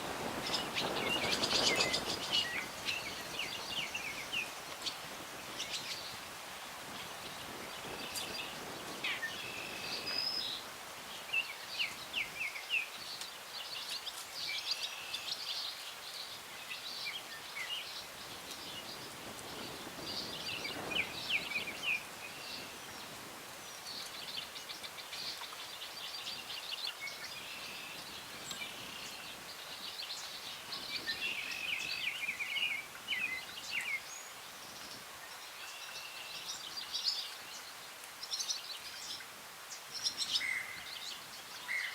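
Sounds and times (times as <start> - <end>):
breeze rustling branches: 0.0 - 41.9
small birds chirping and trilling: 0.2 - 6.3, 6.9 - 41.9.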